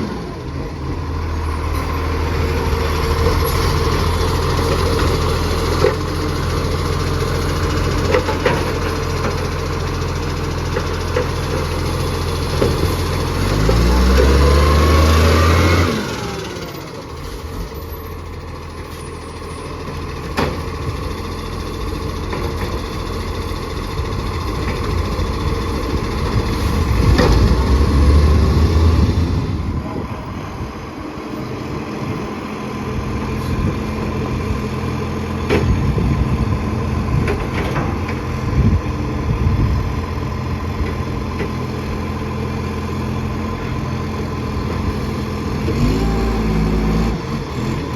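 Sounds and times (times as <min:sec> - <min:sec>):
garbage truck engine surging: 0:00.0 - 0:47.9.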